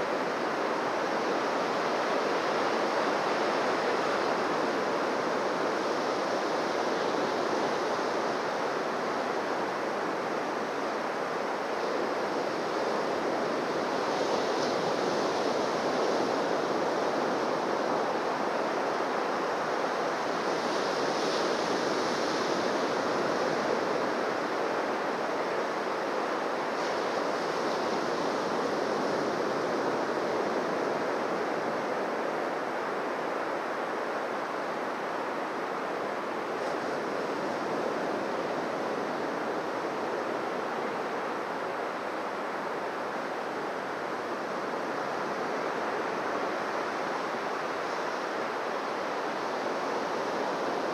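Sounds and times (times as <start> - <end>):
waves washing on beach: 0.0 - 50.9.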